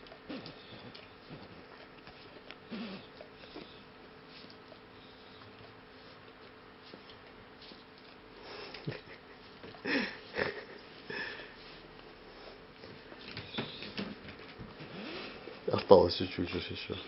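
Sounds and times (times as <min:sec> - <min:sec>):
dog sniffing and snuffling: 0:00.0 - 0:17.0.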